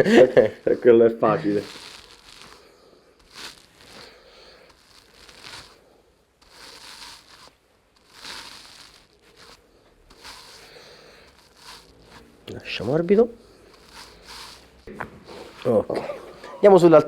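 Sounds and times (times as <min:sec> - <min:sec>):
soft rustling and crinkling: 0:00.0 - 0:17.0.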